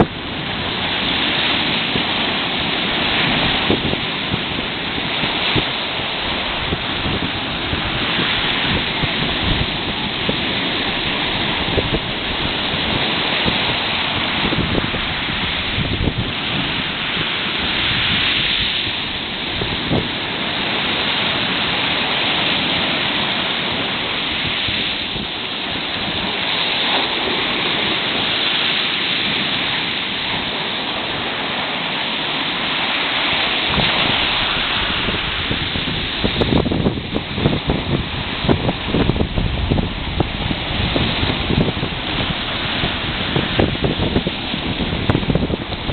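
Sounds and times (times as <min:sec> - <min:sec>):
sea surf washing onto shore: 0:00.0 - 0:45.9
wind buffeting microphone: 0:00.0 - 0:45.9.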